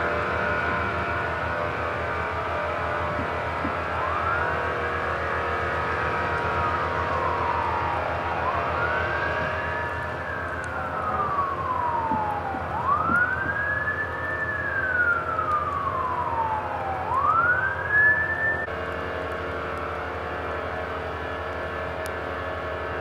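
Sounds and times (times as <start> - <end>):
siren wailing: 0.0 - 18.8.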